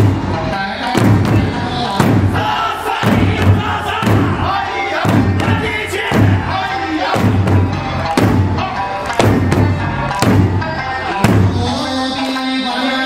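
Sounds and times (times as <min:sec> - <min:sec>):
large barrel drum beats: 0:00.0 - 0:11.9
small hand drums: 0:00.0 - 0:12.4
folk song singing: 0:00.0 - 0:13.0.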